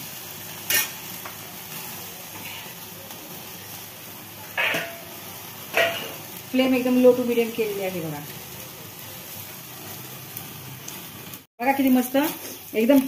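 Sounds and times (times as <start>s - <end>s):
chicken sizzling over flame: 0.0s - 13.0s
sharp crackles: 0.0s - 13.0s.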